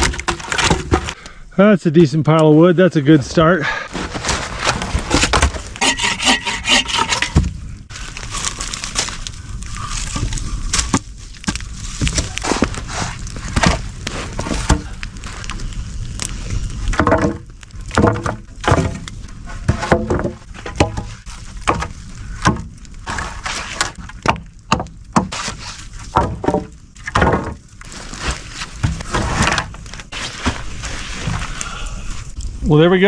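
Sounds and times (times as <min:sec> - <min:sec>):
wooden logs knocking and cracking: 0:00.0 - 0:01.4, 0:03.2 - 0:32.6.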